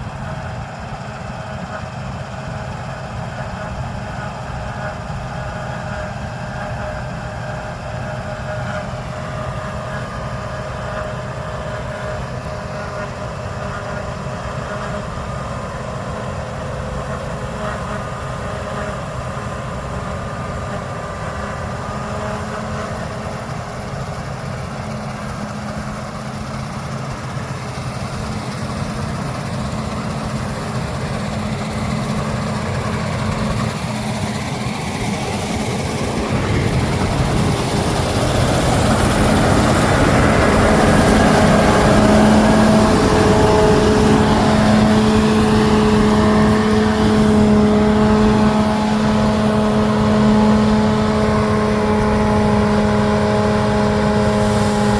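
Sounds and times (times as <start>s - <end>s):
diesel machinery running: 0.0s - 54.9s.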